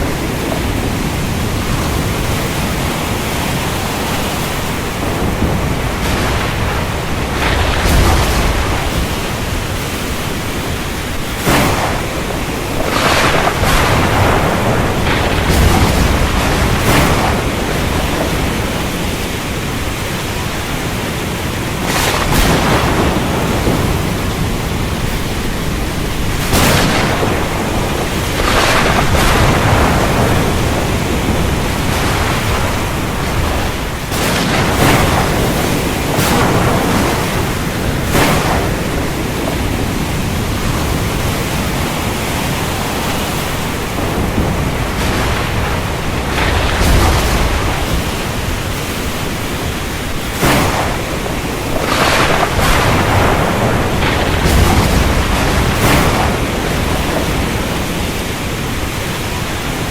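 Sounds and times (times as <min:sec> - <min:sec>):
heavy rain: 0:00.0 - 0:59.9
sharp thunder cracks: 0:00.0 - 0:59.9.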